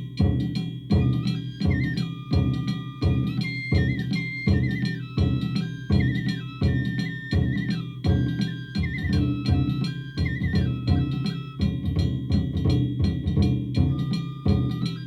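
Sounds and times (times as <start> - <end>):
high ornamented flute melody: 0.0 - 12.6, 13.7 - 15.0
heavy taiko drum strokes: 0.0 - 15.0.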